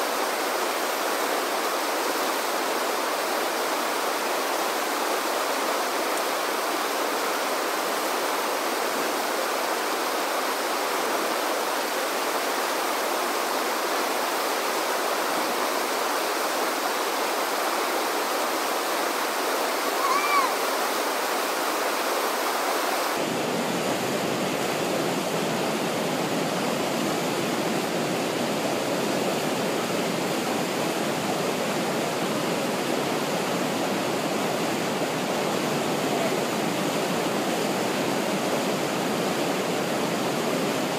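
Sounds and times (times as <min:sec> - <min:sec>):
whitewater rushing: 0:00.0 - 0:40.9.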